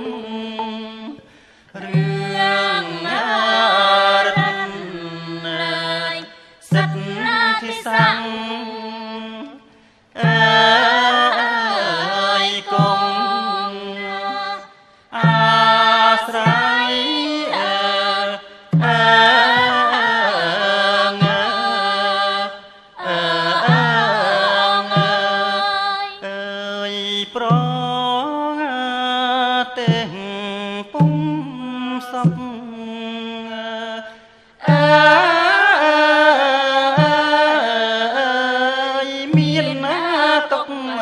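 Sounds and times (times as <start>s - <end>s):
person singing ornamented phrases: 0.0s - 41.0s.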